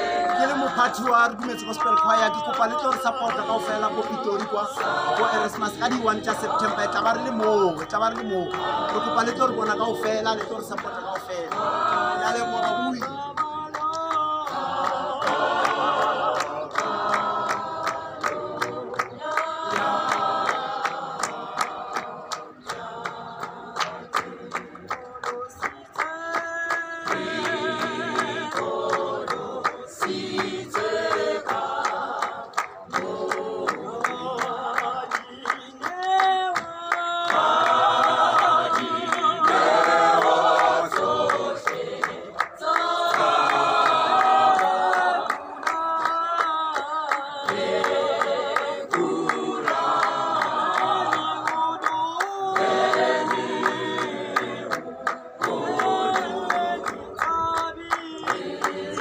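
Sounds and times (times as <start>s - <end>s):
choir singing a cappella: 0.0s - 59.0s
hand-clapping: 0.0s - 59.0s.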